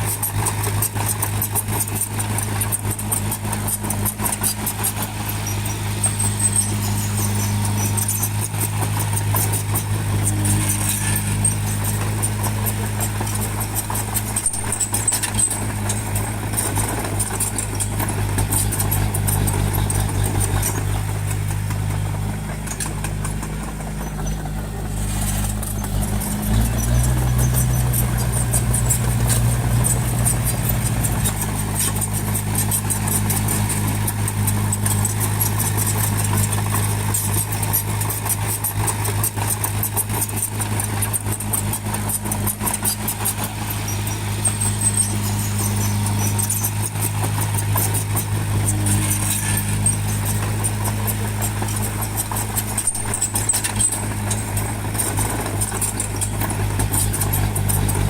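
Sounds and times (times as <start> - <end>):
diesel engine running: 0.0 - 58.0
fast light clatter: 0.0 - 58.0.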